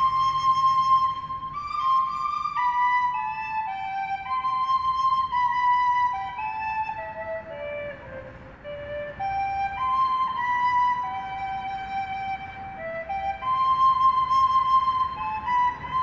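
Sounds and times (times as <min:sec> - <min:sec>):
faint low hiss: 0:00.0 - 0:16.0
slow melody of held notes: 0:00.0 - 0:16.0.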